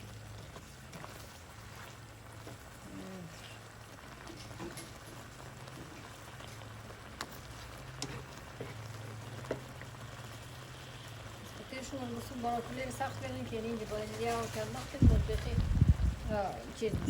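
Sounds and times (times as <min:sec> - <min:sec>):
sauce bubbling in a pan: 0:00.0 - 0:17.0.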